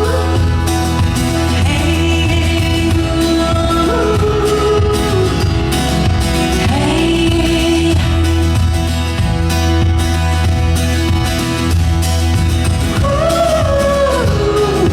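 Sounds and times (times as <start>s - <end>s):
live acoustic band music: 0.0s - 14.9s.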